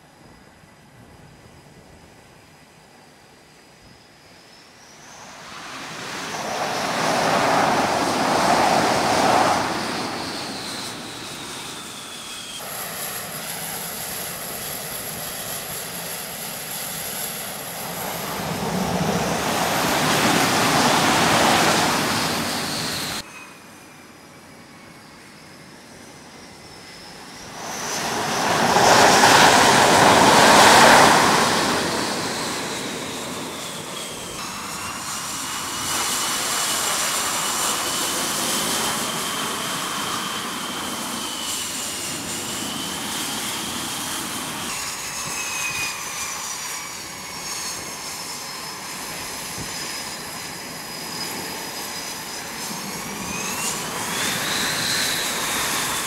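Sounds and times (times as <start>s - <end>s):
jet engine whine: 0.0s - 56.0s
jet engines roaring: 0.7s - 56.0s.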